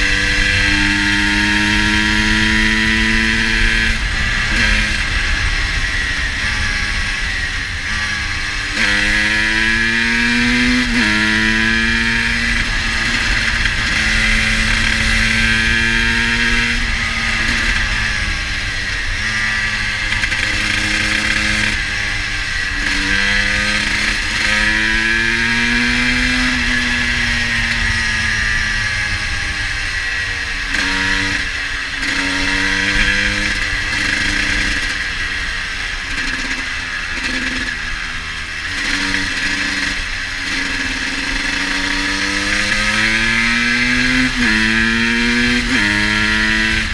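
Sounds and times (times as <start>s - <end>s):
two-stroke engine revving: 0.0s - 46.9s.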